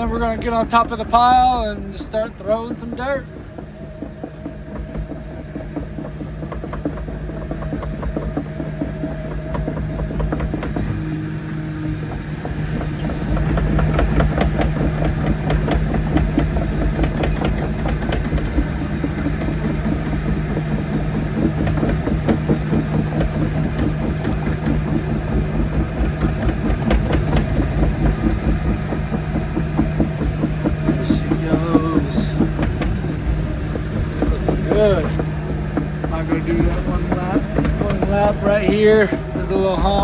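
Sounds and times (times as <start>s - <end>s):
excavator diesel engine under load: 0.0s - 40.0s
fast rattle: 0.0s - 40.0s.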